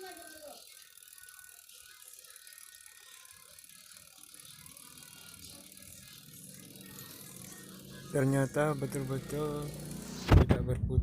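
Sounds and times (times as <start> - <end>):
rapid mechanical ticking: 0.0 - 10.4.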